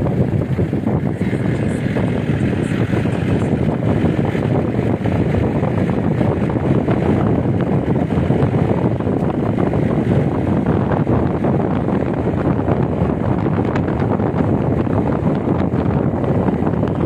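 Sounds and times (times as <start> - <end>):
road and engine rumble: 0.0 - 17.0
wind buffeting microphone: 0.0 - 17.0.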